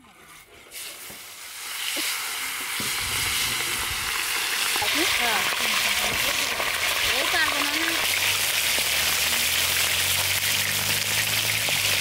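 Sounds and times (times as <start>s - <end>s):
fish sizzling in hot oil: 0.7s - 12.0s.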